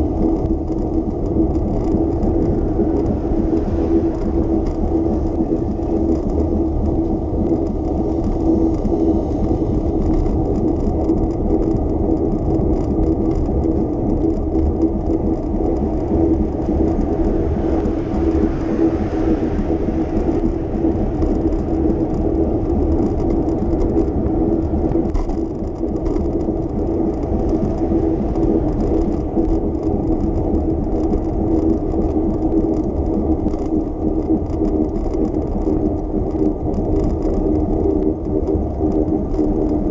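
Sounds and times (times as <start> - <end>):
bicycle tyres and drivetrain whirring: 0.0 - 39.9.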